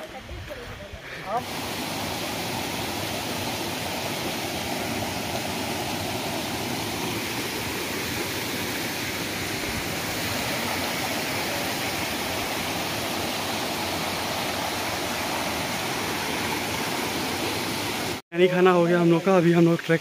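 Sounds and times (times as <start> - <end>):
waterfall rushing over boulders: 1.1 - 20.0.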